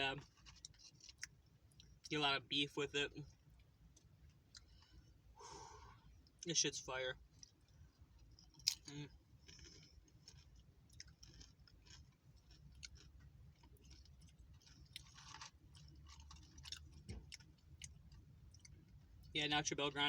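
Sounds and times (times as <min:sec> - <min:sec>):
faint chewing with soft crunches: 0:00.0 - 0:20.0.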